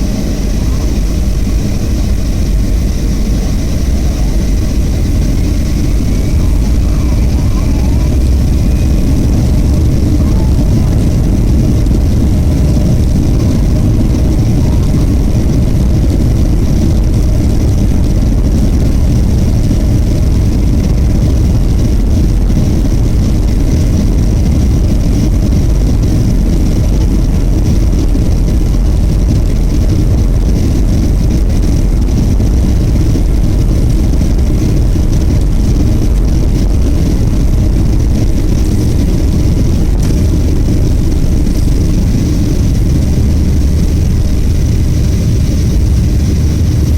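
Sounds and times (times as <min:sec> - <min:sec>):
air rushing past fuselage: 0:00.0 - 0:46.9
jet engines humming: 0:00.0 - 0:46.9.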